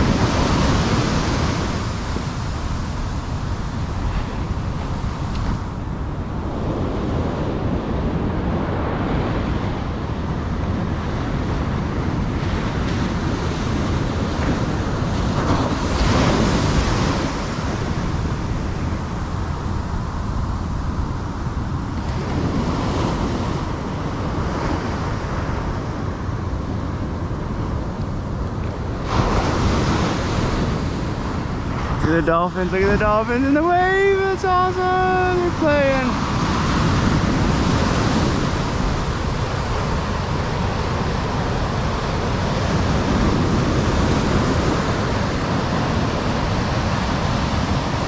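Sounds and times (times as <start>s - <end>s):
small waves washing on sand: 0.0s - 48.0s
wind rumbling on microphone: 0.0s - 48.0s.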